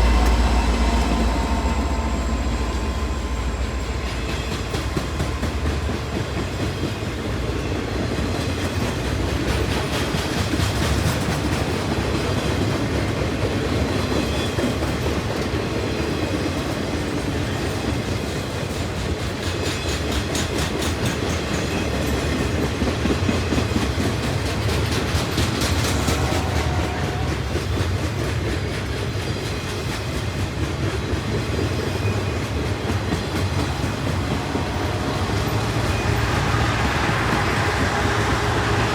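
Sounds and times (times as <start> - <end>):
train cars rumbling: 0.0 - 38.9.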